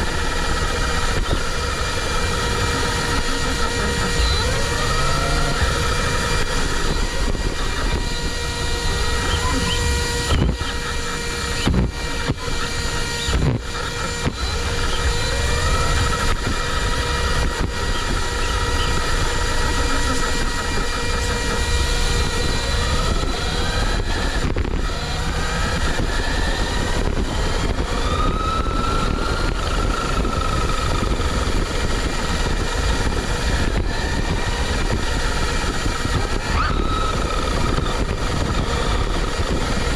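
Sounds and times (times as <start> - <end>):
electric motor whining: 0.0 - 39.9
steady rushing noise: 0.0 - 39.9.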